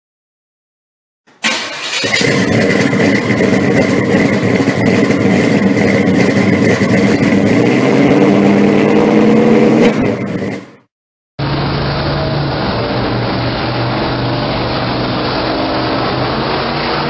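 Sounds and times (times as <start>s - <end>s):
car engine running loudly: 1.4s - 17.0s.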